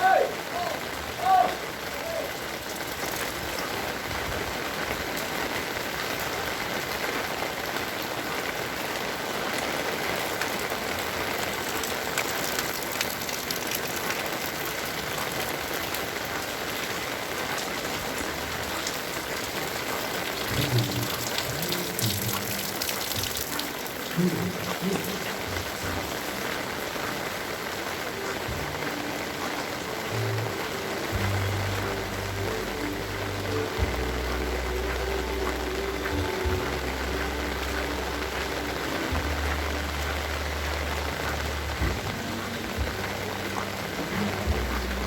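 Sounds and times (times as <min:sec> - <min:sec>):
heavy rain: 0:00.0 - 0:45.0.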